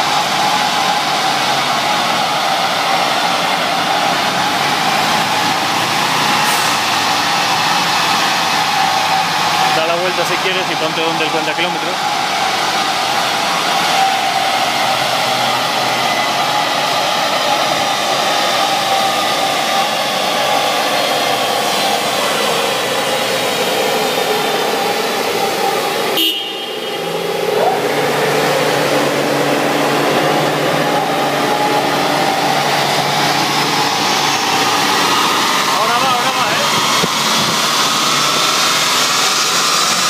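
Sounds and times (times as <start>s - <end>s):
blowing roar: 0.0s - 40.0s
car engine on dynamometer: 0.0s - 40.0s.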